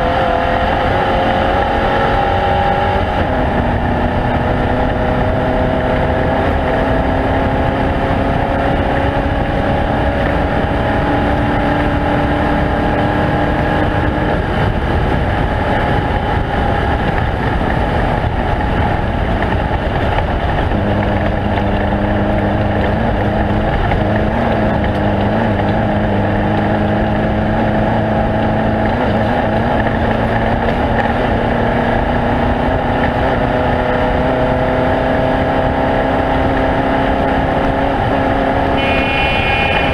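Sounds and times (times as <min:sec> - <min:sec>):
loud steady rushing noise: 0:00.0 - 0:39.9
race vehicle engine running: 0:00.0 - 0:39.9.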